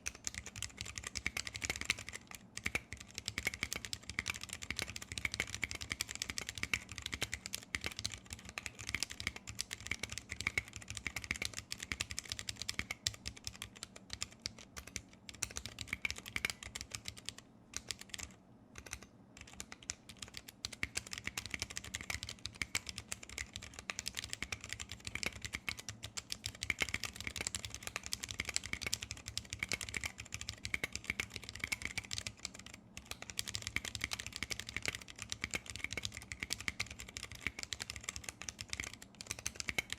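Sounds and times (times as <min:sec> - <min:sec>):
fast keyboard typing: 0:00.1 - 0:39.9.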